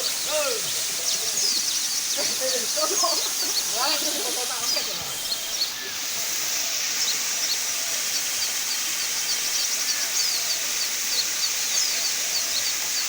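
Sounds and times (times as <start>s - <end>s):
high-pitched hiss: 0.0s - 13.0s
small birds chirping: 0.0s - 13.0s.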